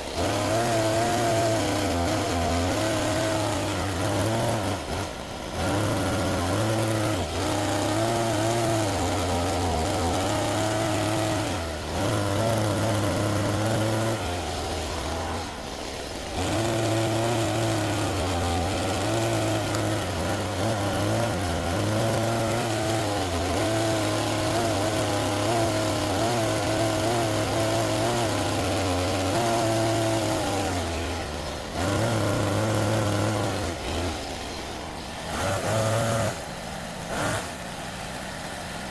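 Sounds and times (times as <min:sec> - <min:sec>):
toy excavator motors humming: 0:00.0 - 0:38.9.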